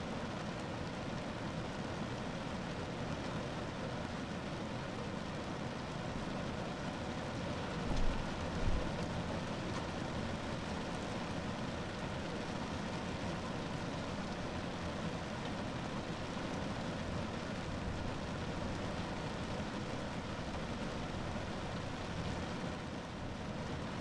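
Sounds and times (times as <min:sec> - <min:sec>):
rain on a car roof: 0:00.0 - 0:24.0.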